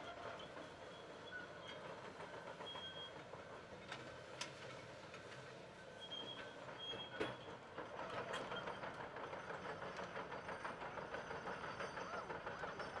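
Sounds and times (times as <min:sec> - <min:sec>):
steel tracks rattling and clanking: 0:00.1 - 0:13.0.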